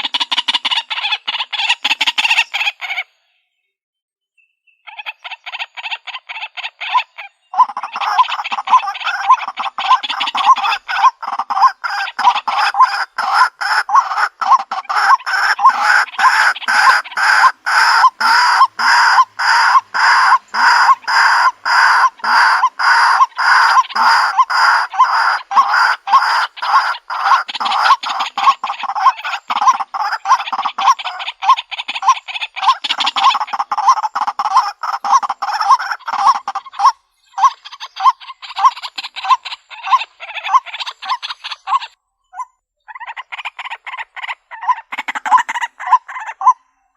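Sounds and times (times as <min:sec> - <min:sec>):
bird harsh repeated call: 0:00.0 - 0:03.4, 0:04.7 - 0:46.9.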